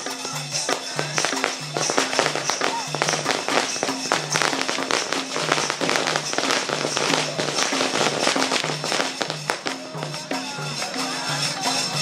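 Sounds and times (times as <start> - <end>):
sharp drum strokes: 0.0 - 10.6
deep drum beat: 0.0 - 10.8
high jingle of bells: 0.0 - 12.0.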